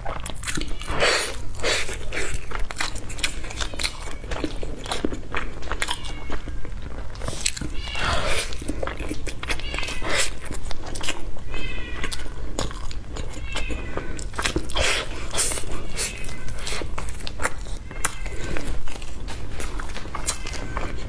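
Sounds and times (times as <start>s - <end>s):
chewing mouth sounds: 0.0s - 21.0s.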